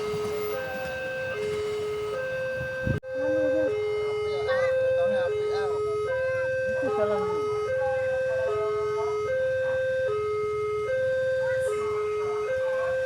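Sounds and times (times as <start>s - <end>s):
level crossing alarm tones: 0.0s - 13.0s.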